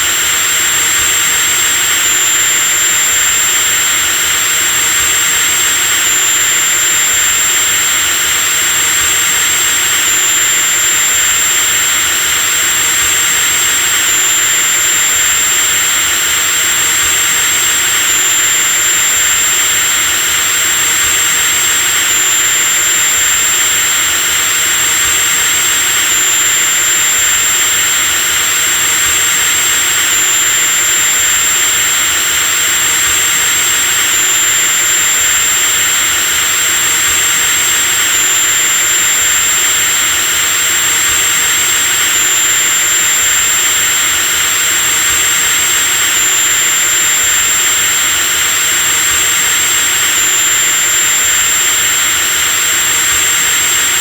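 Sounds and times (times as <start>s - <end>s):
electric drill motor whining: 0.0s - 54.0s.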